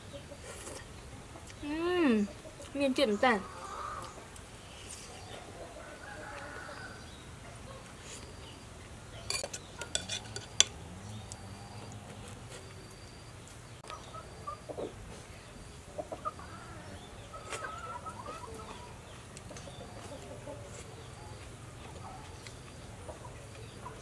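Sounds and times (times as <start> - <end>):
chickens clucking: 0.0 - 10.7, 13.8 - 24.0.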